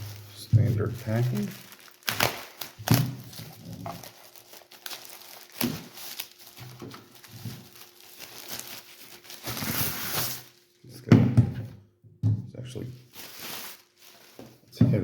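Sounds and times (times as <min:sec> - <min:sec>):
packing material crinkling: 0:00.0 - 0:10.8, 0:12.9 - 0:14.7.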